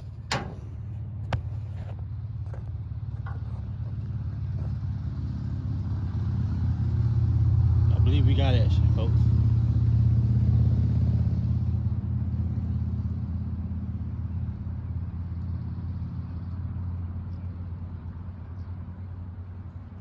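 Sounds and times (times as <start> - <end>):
engine rumble: 0.0 - 20.0.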